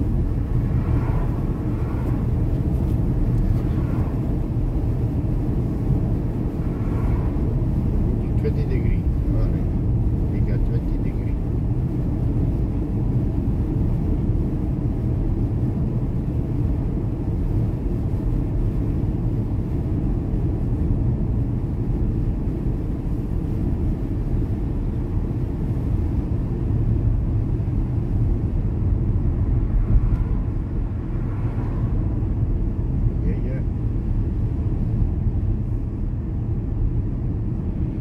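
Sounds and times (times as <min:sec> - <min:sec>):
car driving road noise: 0:00.0 - 0:38.0.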